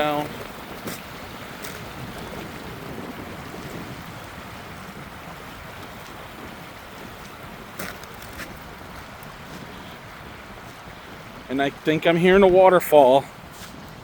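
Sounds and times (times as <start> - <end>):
creek rushing: 0.0 - 14.0.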